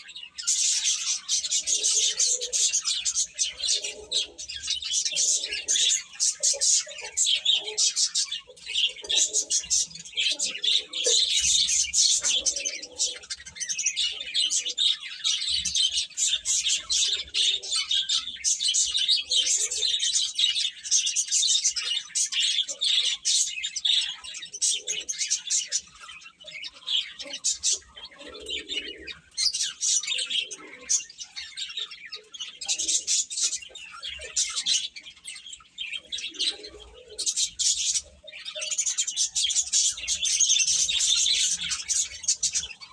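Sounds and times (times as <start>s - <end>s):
baby chicks peeping: 0.0s - 42.9s.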